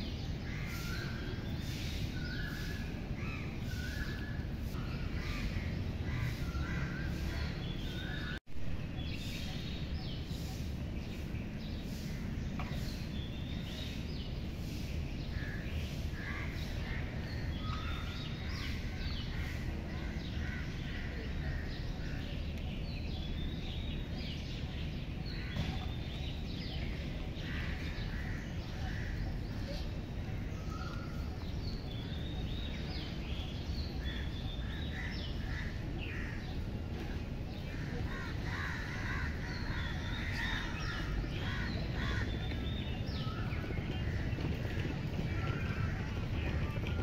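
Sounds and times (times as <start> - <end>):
birds calling: 0.0 - 47.0
low background noise: 0.0 - 47.0.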